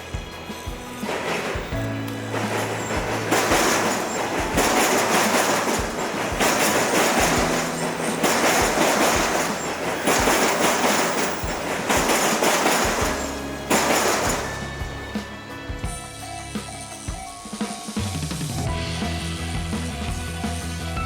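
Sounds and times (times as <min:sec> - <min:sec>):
train wheels clattering over rails: 0:00.0 - 0:17.3.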